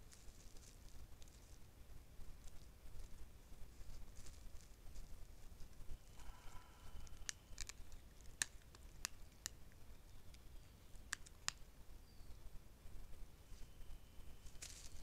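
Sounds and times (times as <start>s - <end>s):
paws crackling dry leaves: 0.0s - 11.6s, 13.5s - 15.0s.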